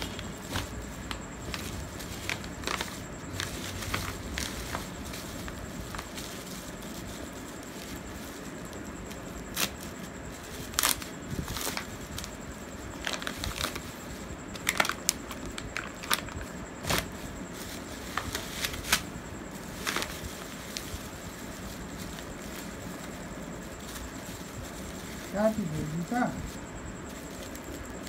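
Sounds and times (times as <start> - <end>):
bubble wrap crinkling and crackling: 0.0 - 28.0.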